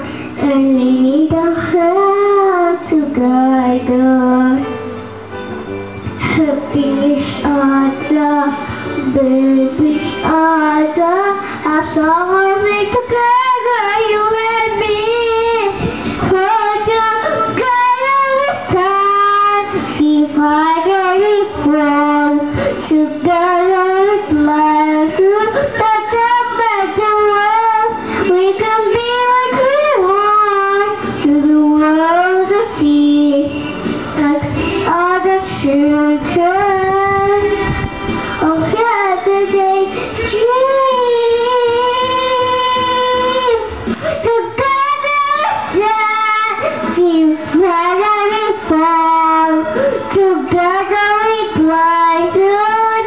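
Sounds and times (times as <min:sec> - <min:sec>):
girl singing into microphone: 0:00.0 - 0:53.0.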